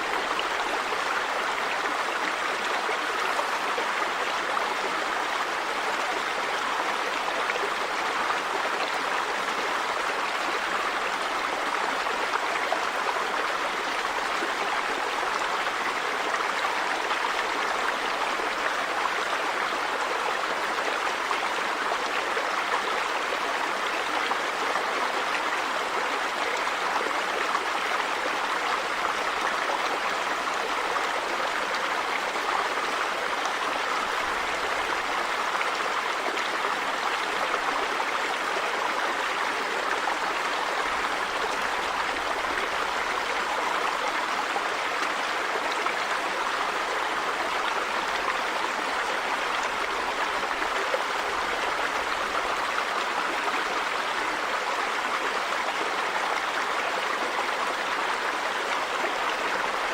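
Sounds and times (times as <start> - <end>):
river water running over rocks: 0.0 - 59.9.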